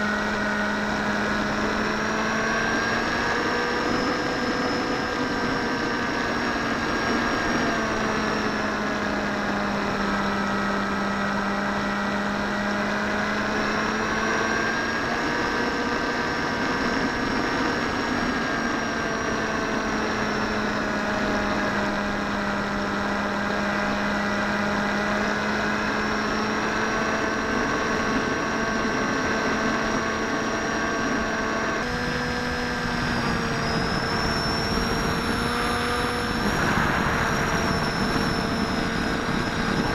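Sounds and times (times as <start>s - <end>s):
electric motor and propeller humming: 0.0s - 39.9s
wind rushing over microphone: 0.0s - 39.9s.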